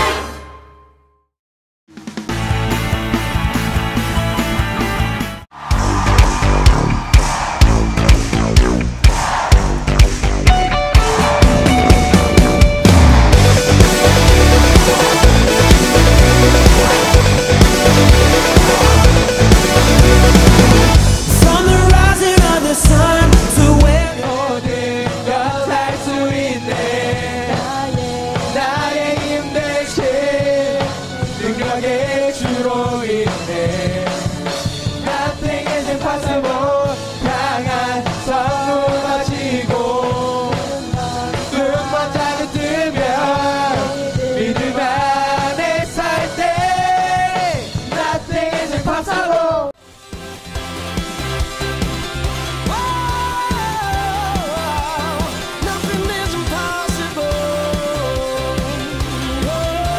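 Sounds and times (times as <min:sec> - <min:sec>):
rock song with singing: 0:10.5 - 0:49.8, 0:50.4 - 0:59.9.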